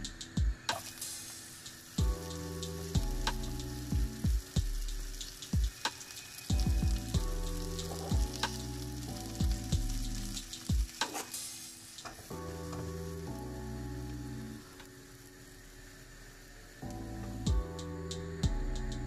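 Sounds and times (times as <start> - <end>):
background music with soft beat: 0.0 - 19.0
vegetables sizzling in frying pan: 0.7 - 17.4.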